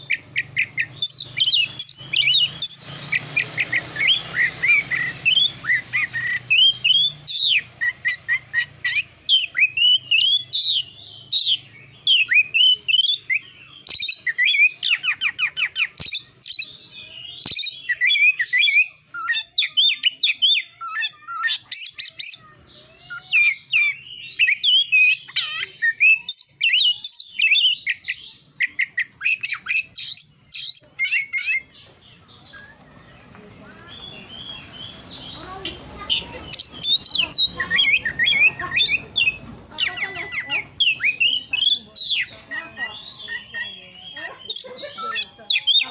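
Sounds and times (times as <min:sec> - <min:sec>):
songbird whistles and trills: 0:00.0 - 0:45.9.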